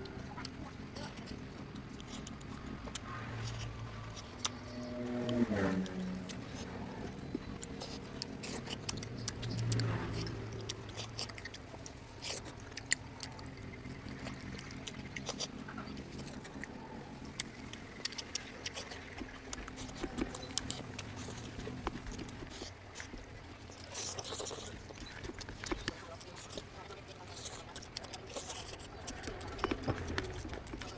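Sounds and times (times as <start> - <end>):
wet chewing with mouth clicks: 0.0 - 30.9.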